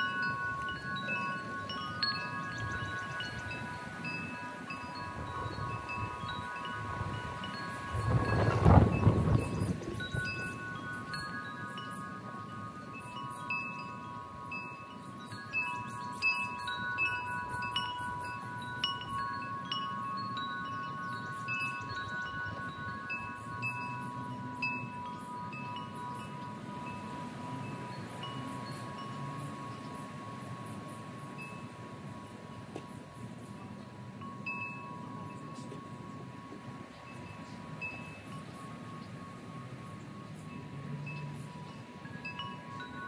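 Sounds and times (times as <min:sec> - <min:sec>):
wind chimes ringing: 0:00.0 - 0:43.0.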